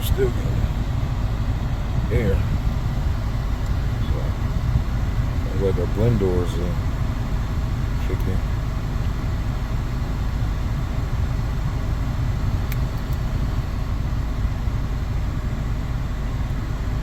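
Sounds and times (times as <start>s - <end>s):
idling engine hum: 0.0s - 17.0s
ventilation blower rushing air: 0.0s - 17.0s.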